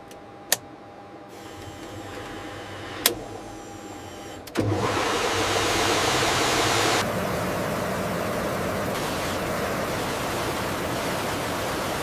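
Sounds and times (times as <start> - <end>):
jet engine starting up: 1.4 - 12.0.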